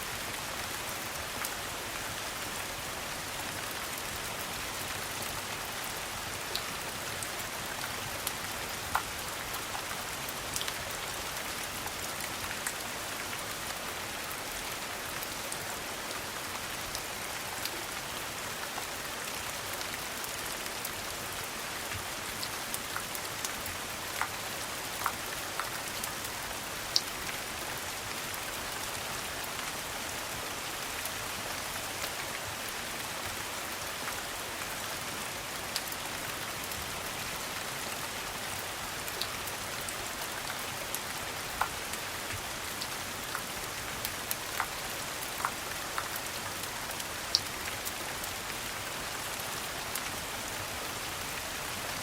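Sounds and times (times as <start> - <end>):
rain pattering: 0.1 - 52.0.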